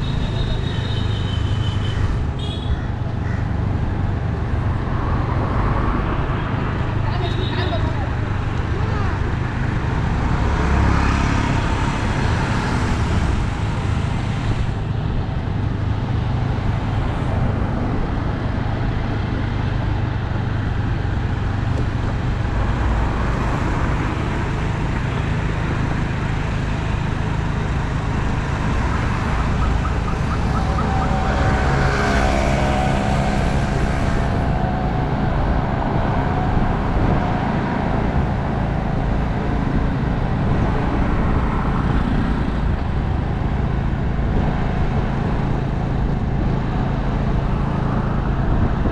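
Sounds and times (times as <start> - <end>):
car driving in city traffic: 0.0 - 48.9.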